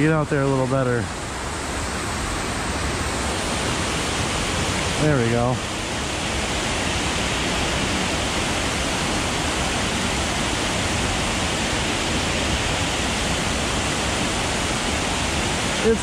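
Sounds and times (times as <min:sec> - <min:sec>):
water pouring over waterfall: 0:00.0 - 0:16.0.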